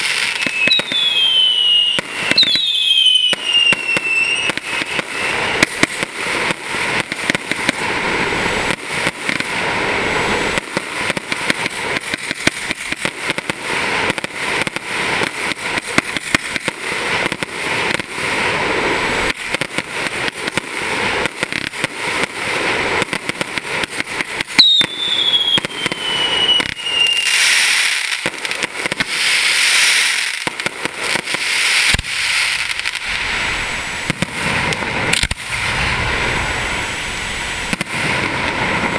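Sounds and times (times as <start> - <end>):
falling firework whistle: 0.0 - 38.9
fireworks bangs and crackling: 0.0 - 38.9
fireworks hissing: 0.0 - 38.9.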